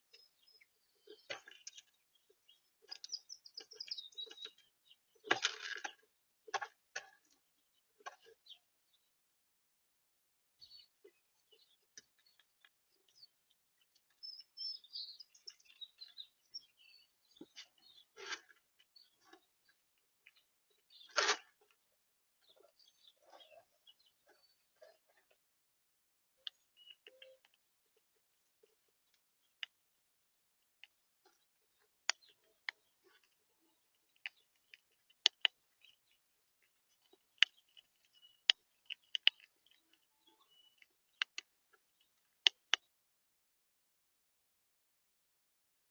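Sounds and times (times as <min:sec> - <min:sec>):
small birds chirping: 0:00.0 - 0:09.2, 0:10.6 - 0:25.4, 0:26.4 - 0:42.9.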